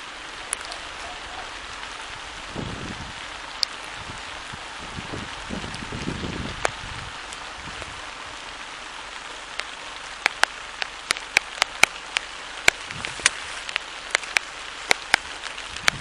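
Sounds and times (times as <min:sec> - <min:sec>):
rain hiss: 0:00.0 - 0:16.0
sharp rain drop taps: 0:00.0 - 0:16.0.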